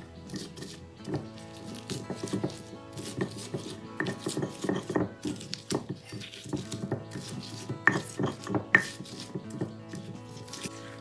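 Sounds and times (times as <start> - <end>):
background music: 0.0 - 11.0
pestle knocking in stone mortar: 0.3 - 10.6.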